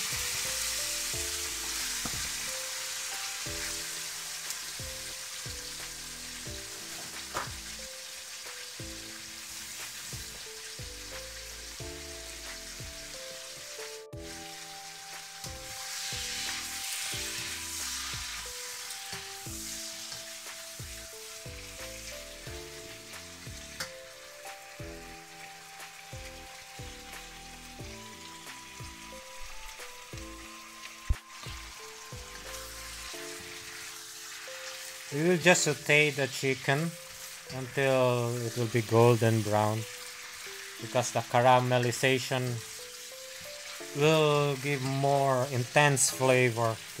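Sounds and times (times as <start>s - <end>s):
chicken sizzling in hot oil: 0.0s - 47.0s.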